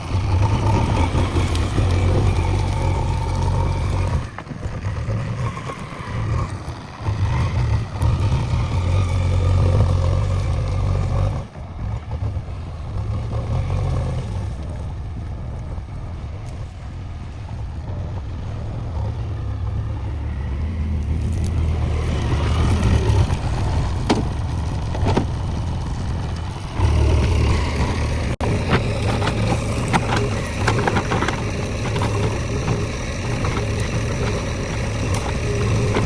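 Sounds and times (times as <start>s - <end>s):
sharp cracks and scraping: 0.0s - 14.9s, 20.6s - 36.0s
diesel engine running under load: 0.0s - 36.0s.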